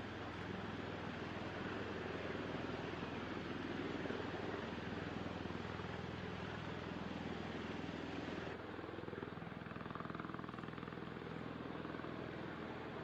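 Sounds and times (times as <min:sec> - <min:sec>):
aircraft engines and rotors drone: 0:00.0 - 0:13.0.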